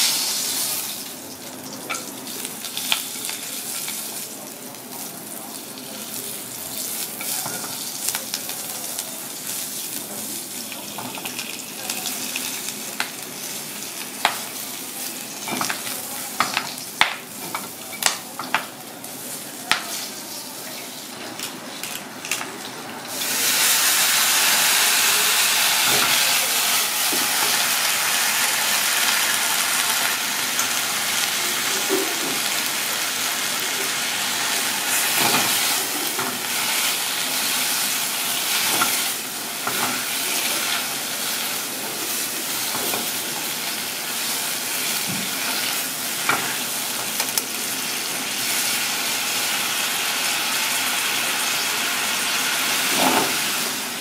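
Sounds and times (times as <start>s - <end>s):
leaves sizzling in hot oil: 0.0s - 22.4s, 23.0s - 54.0s.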